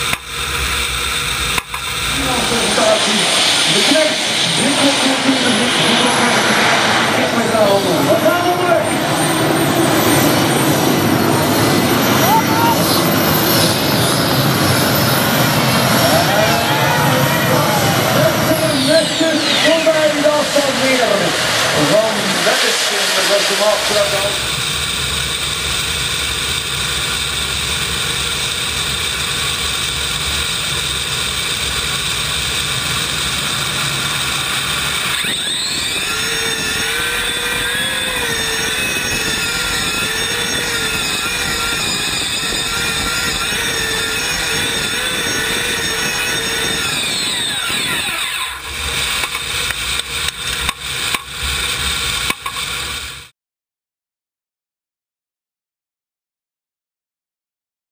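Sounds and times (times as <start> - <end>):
turbine engine whining: 0.0 - 53.3.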